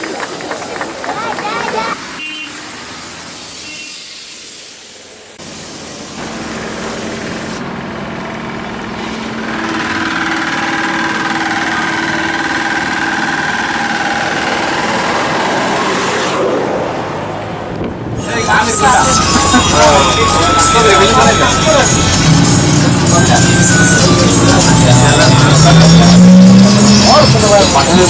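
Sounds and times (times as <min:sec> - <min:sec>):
engine running: 0:04.8 - 0:28.0.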